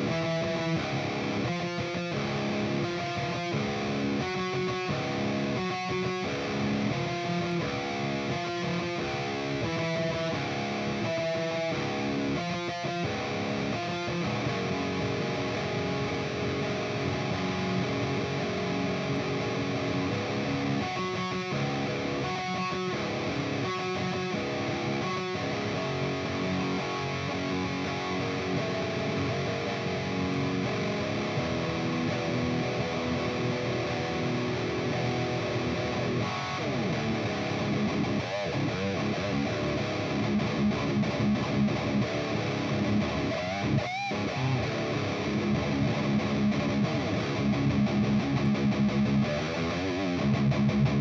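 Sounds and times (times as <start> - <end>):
electric guitar bending notes: 0.0 - 51.0.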